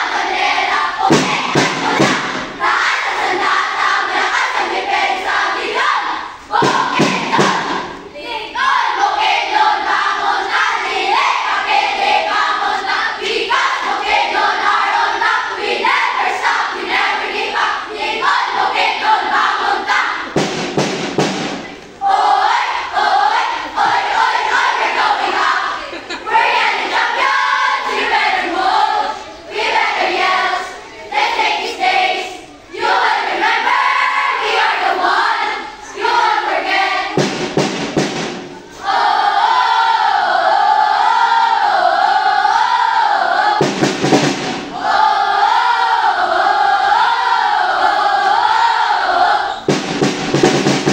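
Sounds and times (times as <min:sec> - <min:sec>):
children chanting in unison: 0:00.0 - 0:49.8.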